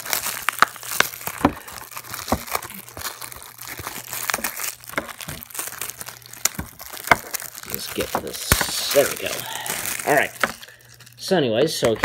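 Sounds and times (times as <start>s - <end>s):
plastic shrink wrap crinkling: 0.0s - 12.0s.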